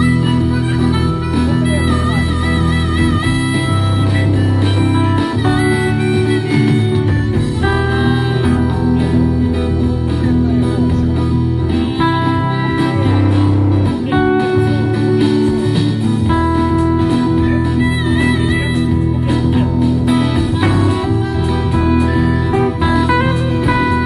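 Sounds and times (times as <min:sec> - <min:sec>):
bass notes: 0:00.0 - 0:24.0
guitar playing chords: 0:00.0 - 0:24.0.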